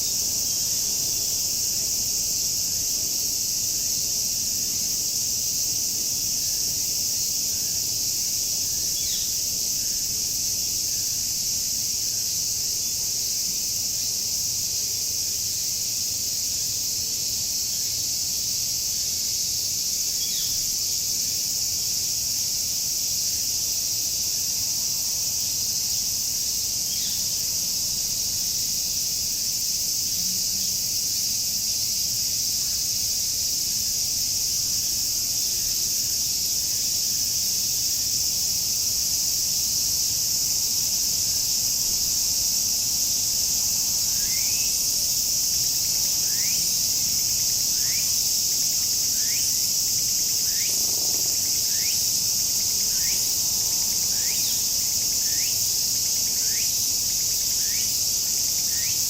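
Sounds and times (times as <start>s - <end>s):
cicadas shrilling drone: 0.0s - 59.0s.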